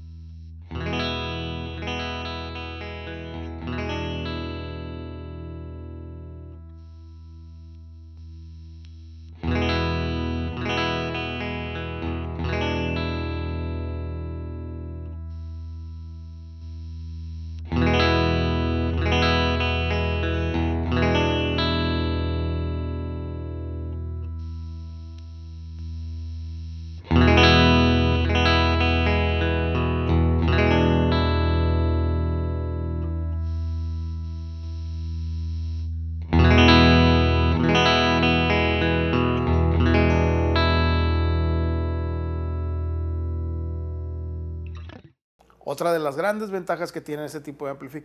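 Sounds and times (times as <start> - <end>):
electric guitar chords ringing: 0.0 - 45.1.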